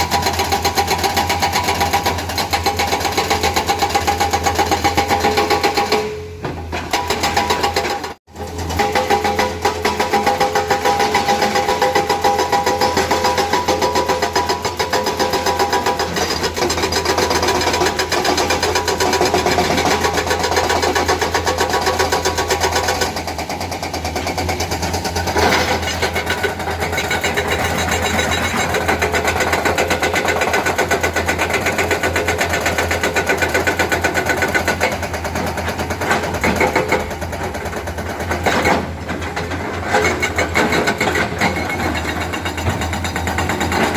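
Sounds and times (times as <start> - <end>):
hydraulic breaker hammering: 0.5 - 37.2
excavator engine running: 6.6 - 43.9.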